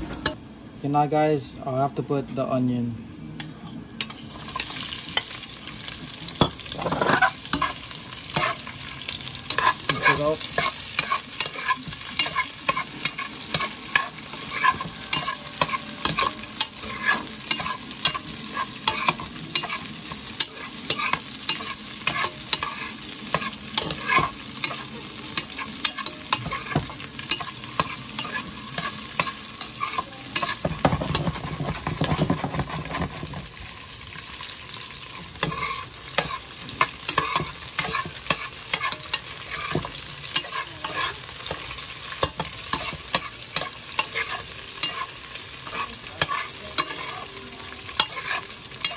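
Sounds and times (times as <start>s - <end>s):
onion and garlic sizzling in oil: 0.0s - 48.9s
metal spoon scraping a pot: 6.4s - 8.7s, 9.5s - 33.5s, 35.4s - 47.3s, 47.9s - 48.9s.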